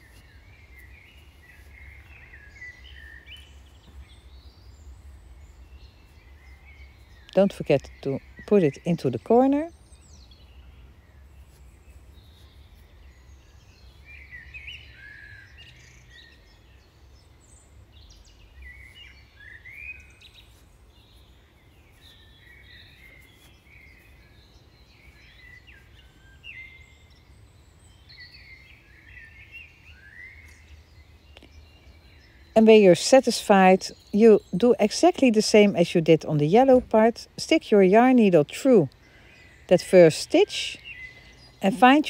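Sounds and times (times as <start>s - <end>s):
faint birds chirping: 0.0s - 42.0s.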